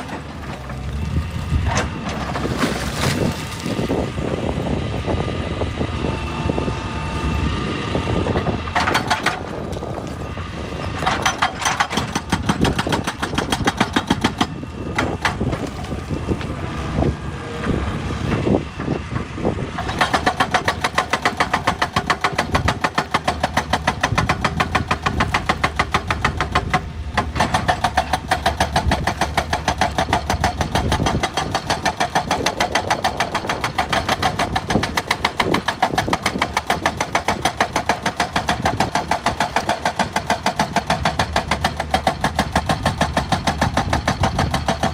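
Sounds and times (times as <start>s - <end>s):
excavator diesel engine pulsing: 0.0s - 44.9s.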